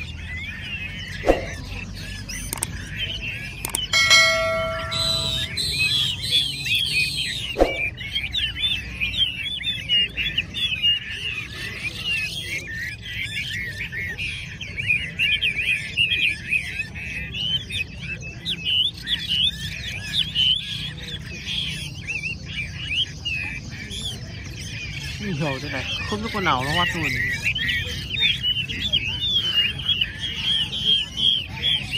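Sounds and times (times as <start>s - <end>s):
songbirds whistling chorus: 0.0s - 31.9s.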